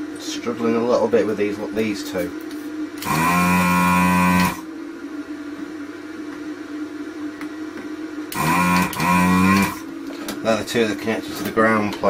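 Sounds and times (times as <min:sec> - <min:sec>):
vacuum pump rising whine: 0:00.0 - 0:12.0.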